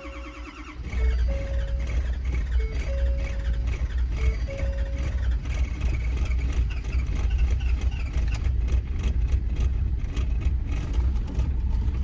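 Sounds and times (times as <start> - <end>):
diesel engine running rough: 0.0 - 12.0.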